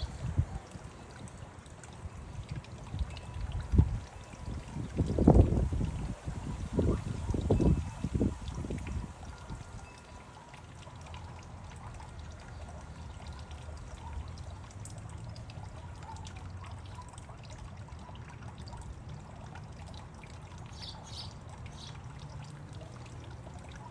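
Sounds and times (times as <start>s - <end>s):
fountain water splashing: 0.0s - 23.9s.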